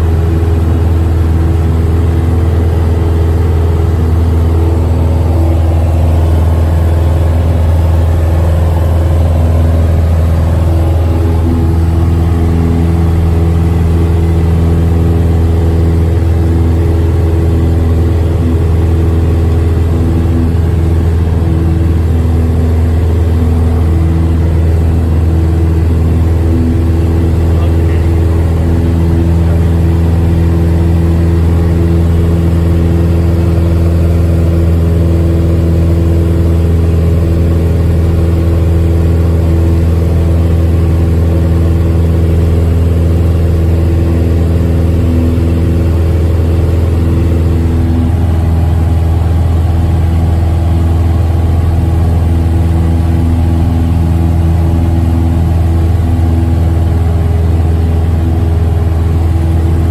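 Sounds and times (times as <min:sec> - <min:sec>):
aircraft engine and propeller drone: 0:00.0 - 0:59.9.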